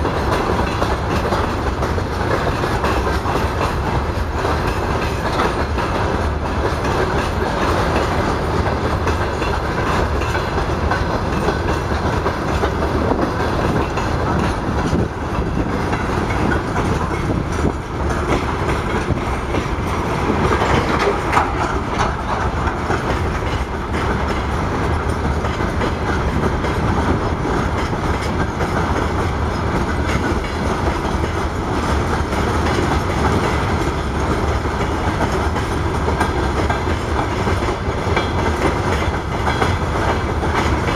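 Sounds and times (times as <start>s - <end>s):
clickety-clack of wheels: 0.0s - 40.9s
freight train wheels rumbling: 0.0s - 40.9s.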